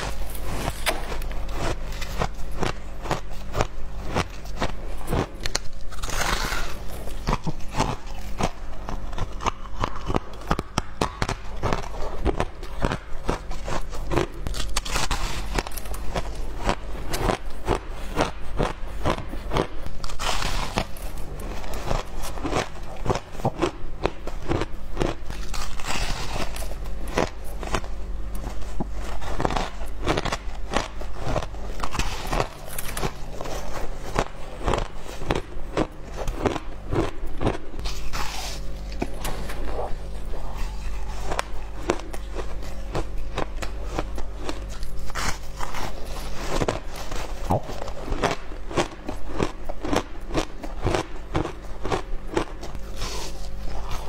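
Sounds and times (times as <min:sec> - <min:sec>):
chewing crunchy ice: 0:00.0 - 0:54.0
steady low hum: 0:00.0 - 0:54.0.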